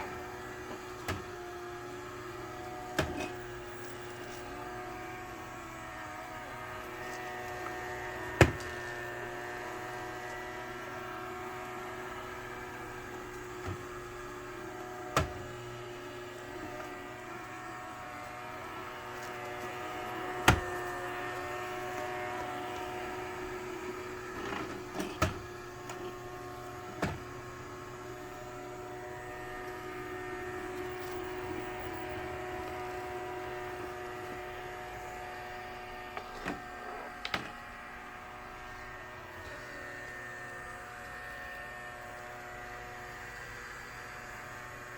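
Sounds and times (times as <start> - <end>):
robot vacuum motor hum: 0.0 - 44.9.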